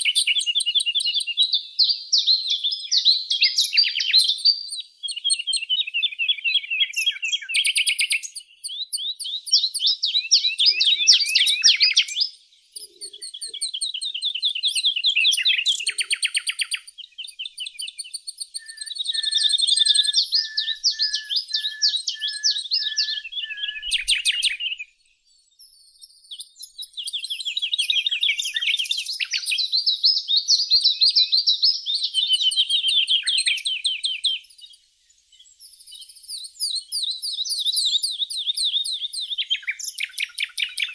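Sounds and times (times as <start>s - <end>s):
songbirds trilling: 0.0s - 40.9s.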